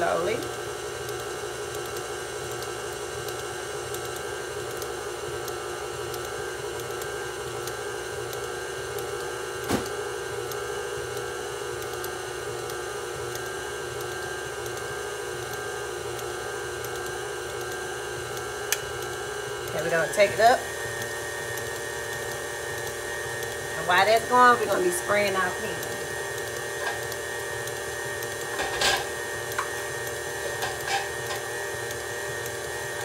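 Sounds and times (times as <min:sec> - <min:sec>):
stand mixer motor whine: 0:00.0 - 0:33.0.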